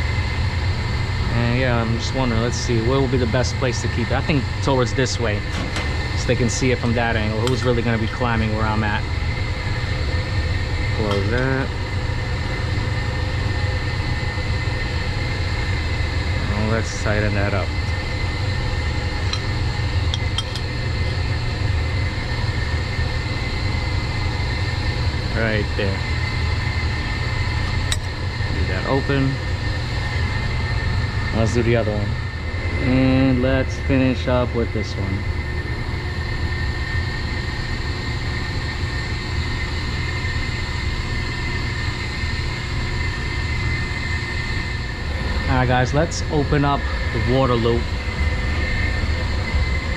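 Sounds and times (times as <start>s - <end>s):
low mechanical drone: 0.0s - 49.9s
machinery humming: 0.0s - 49.9s.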